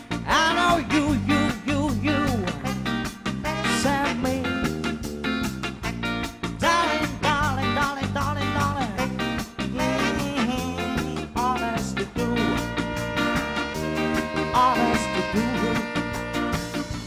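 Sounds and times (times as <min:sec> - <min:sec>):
live band playing: 0:00.0 - 0:17.0
sliding lead melody: 0:00.0 - 0:17.0
steady drum beat: 0:00.1 - 0:17.0.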